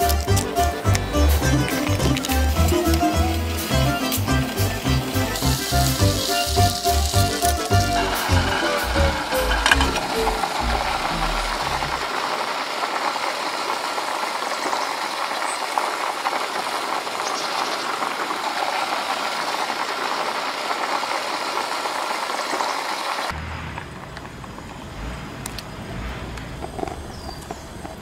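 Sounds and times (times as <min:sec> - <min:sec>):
soup boiling in a pot: 0:00.0 - 0:23.4.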